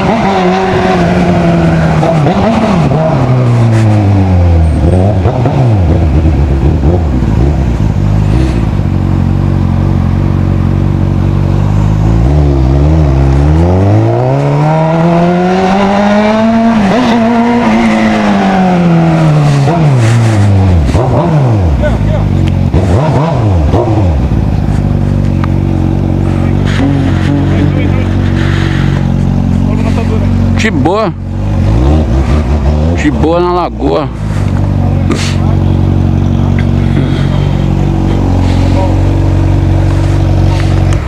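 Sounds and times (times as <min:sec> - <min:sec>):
motorcycle engine under throttle: 0:00.0 - 0:41.0.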